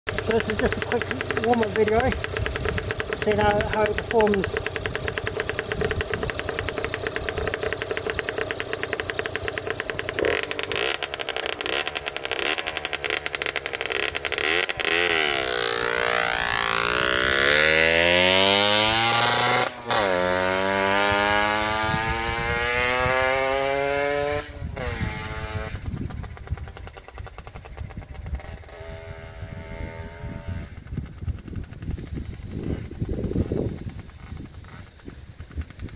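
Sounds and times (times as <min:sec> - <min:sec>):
two-stroke motorcycle engine: 0:00.0 - 0:35.9.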